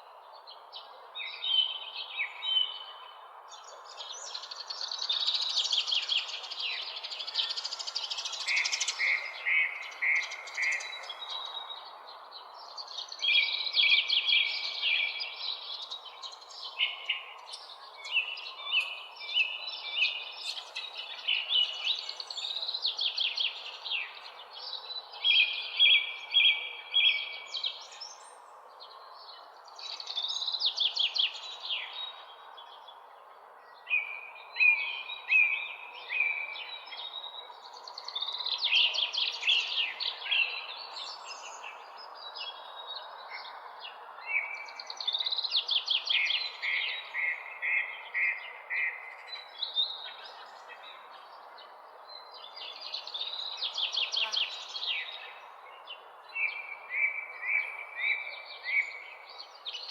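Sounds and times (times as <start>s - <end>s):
bird singing trill song: 0.0s - 59.9s.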